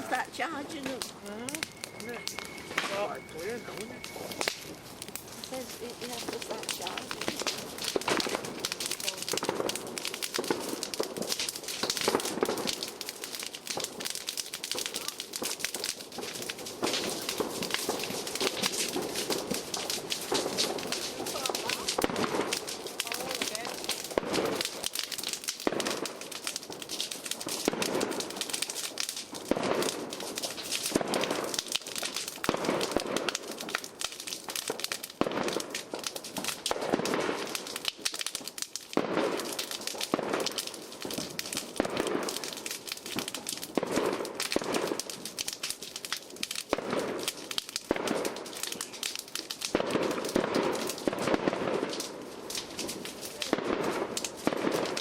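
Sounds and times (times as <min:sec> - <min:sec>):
fireworks bangs: 0:00.0 - 0:38.3, 0:38.9 - 0:55.0
fireworks crackling and popping: 0:00.0 - 0:55.0.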